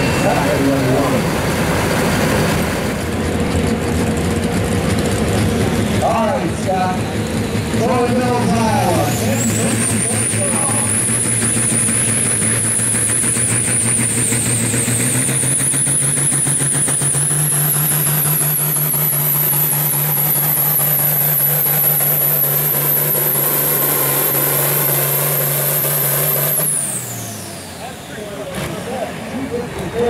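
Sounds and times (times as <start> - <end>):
tractor diesel engine at full throttle: 0.0 - 30.0.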